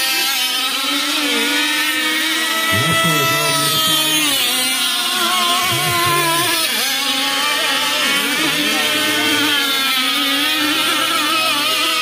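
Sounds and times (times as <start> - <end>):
rc boat motors racing: 0.0 - 12.0.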